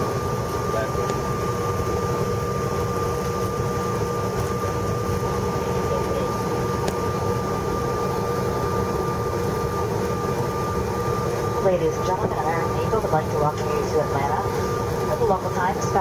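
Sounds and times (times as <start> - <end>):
jet engines rumbling hum: 0.0 - 16.0
steady whining tones: 0.0 - 16.0.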